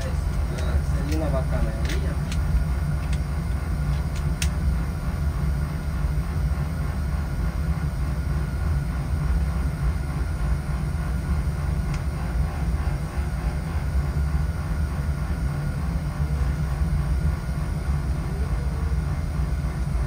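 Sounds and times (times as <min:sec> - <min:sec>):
boiler burner rumbling: 0:00.0 - 0:20.0.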